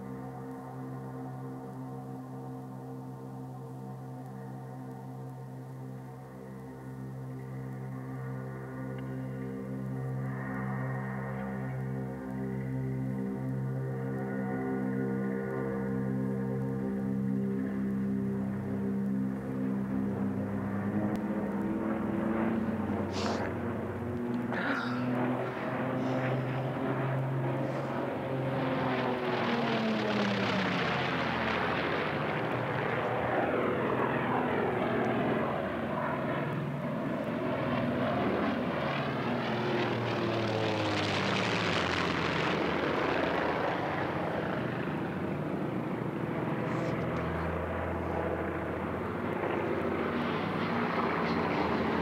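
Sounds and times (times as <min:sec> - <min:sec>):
propeller aircraft flying overhead: 0:00.0 - 0:52.0.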